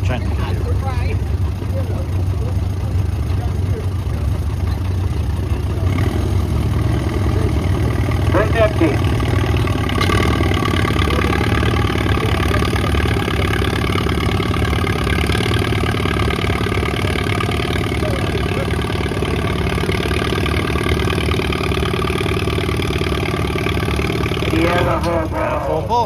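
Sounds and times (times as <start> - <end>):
tractor engine under load: 0.0 - 26.0.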